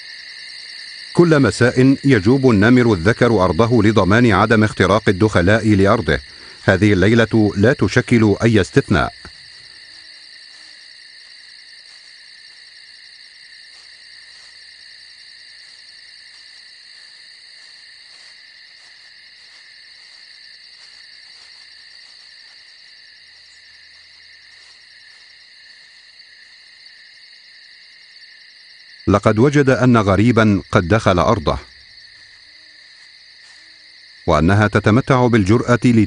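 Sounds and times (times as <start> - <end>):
crickets and insects chirping: 0.0 - 36.0.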